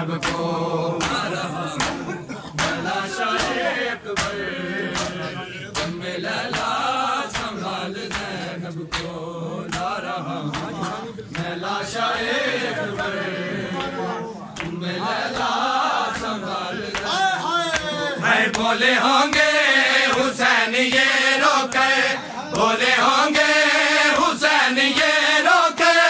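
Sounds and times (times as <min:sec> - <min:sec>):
men chanting a lament: 0:00.0 - 0:26.0
rhythmic chest-beating slaps: 0:00.0 - 0:26.0.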